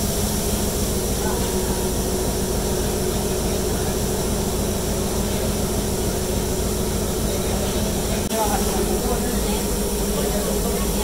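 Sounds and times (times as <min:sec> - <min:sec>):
constant hum: 0:00.0 - 0:11.0
steam locomotive roar and hiss: 0:00.0 - 0:11.0.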